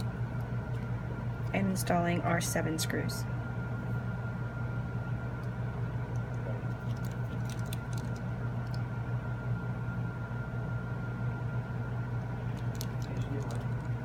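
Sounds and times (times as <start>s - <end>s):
electrical hum with high whine: 0.0s - 14.0s.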